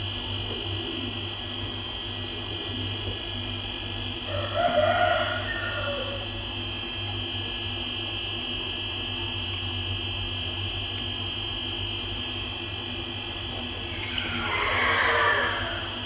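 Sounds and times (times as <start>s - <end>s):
high-pitched whine: 0.0s - 16.0s
mechanical hum: 0.0s - 16.0s.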